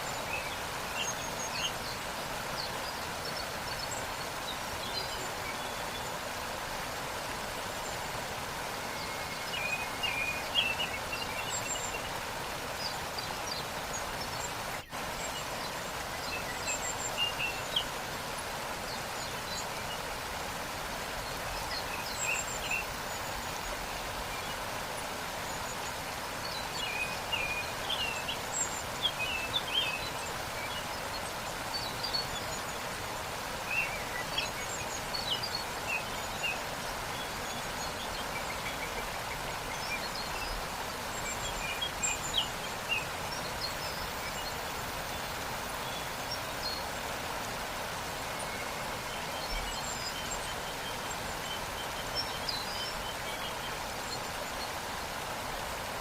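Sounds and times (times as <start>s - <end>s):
small birds chirping: 0.0s - 56.0s
waterfall rushing: 0.0s - 56.0s.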